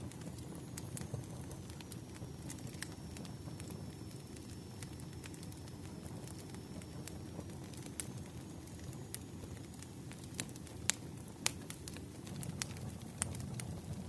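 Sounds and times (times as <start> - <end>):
sharp crackles and pops: 0.0 - 14.0
wood fire burning: 0.0 - 14.0.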